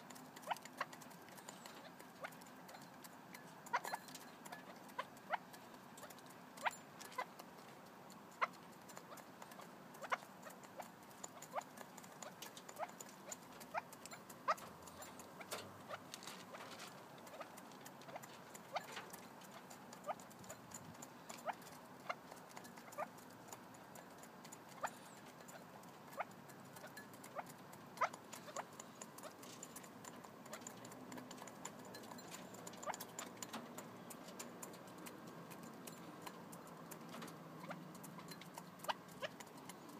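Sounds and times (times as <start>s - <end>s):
beaks tapping on bowl: 0.0s - 39.9s.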